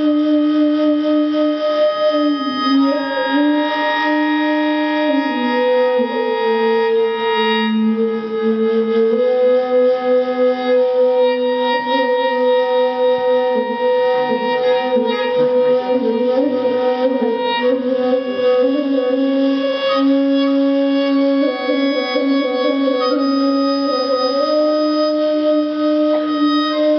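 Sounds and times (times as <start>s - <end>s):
higher sustained tones: 0.0s - 8.4s, 10.8s - 26.9s
slow wavering melody: 0.0s - 26.9s.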